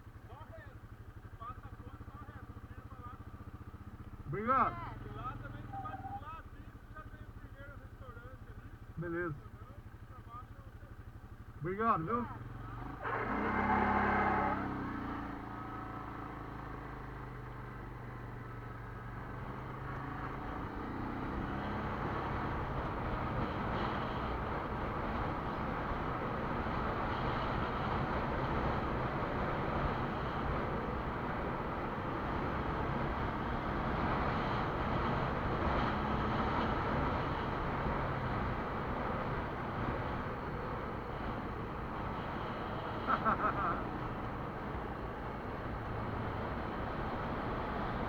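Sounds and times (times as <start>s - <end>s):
quad bike engine running: 0.0s - 48.0s
road noise: 0.0s - 48.0s
wind: 0.0s - 48.0s.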